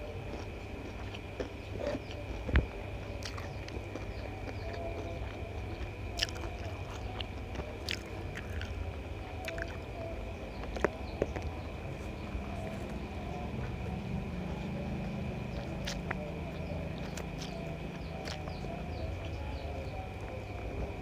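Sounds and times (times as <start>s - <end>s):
chewing and wet mouth sounds: 0.0s - 21.0s
steady low hum: 0.0s - 21.0s.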